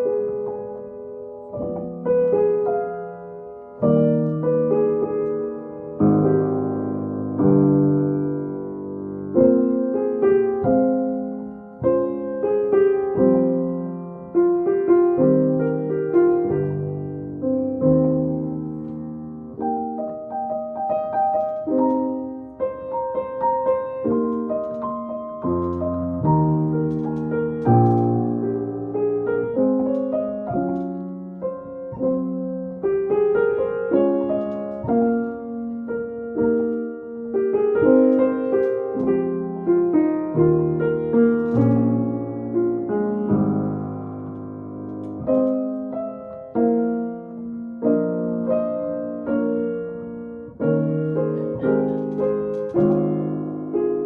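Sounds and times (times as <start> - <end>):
slow solo piano piece: 0.0 - 54.0.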